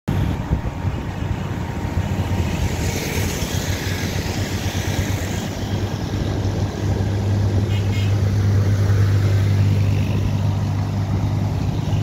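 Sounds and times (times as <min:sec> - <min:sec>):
road noise: 0:00.1 - 0:12.0
vehicle engine running: 0:01.8 - 0:12.0.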